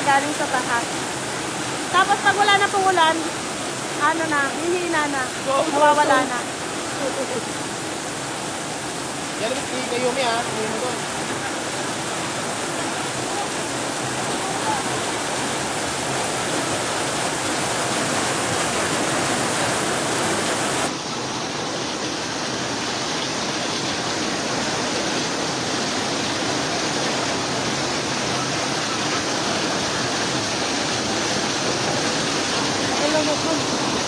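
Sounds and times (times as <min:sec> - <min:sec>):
floodwater rushing: 0:00.0 - 0:34.0
heavy rain pouring: 0:00.0 - 0:34.0.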